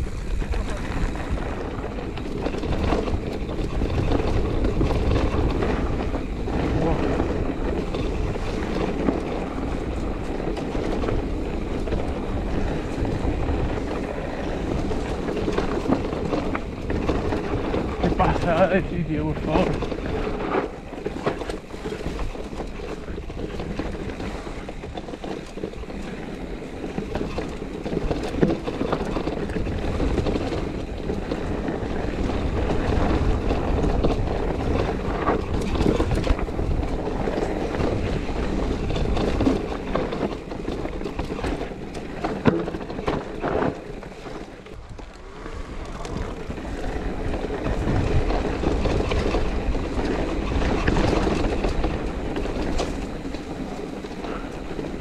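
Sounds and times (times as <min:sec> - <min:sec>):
bike knocks and rattles: 0:00.0 - 0:55.0
tyres rolling over gravel: 0:00.0 - 0:55.0
wind buffeting microphone: 0:00.0 - 0:55.0.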